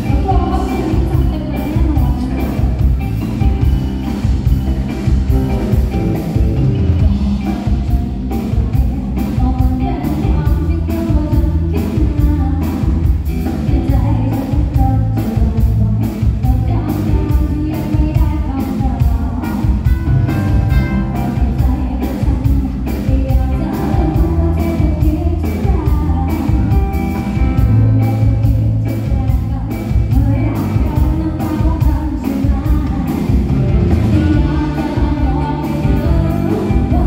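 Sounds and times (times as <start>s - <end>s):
drum kit beat: 0.0s - 37.0s
live rock band: 0.0s - 37.0s
person singing: 0.0s - 37.0s.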